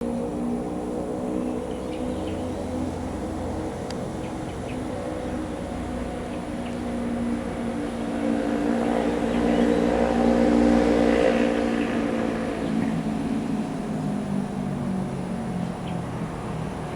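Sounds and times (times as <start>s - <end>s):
locomotive diesel engine droning: 0.0s - 16.9s.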